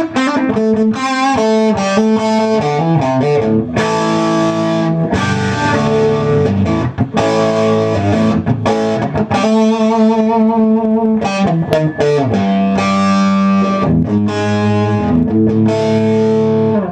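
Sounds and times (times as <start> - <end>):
electric guitar through an amp: 0.0 - 16.9.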